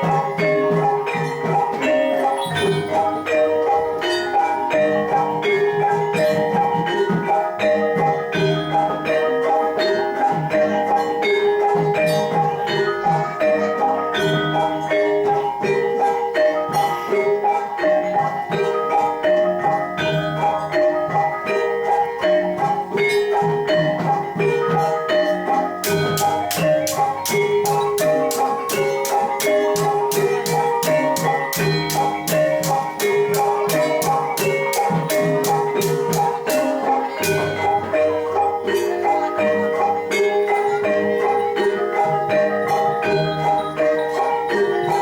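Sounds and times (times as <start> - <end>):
gamelan metallophones ringing: 0.0 - 45.0.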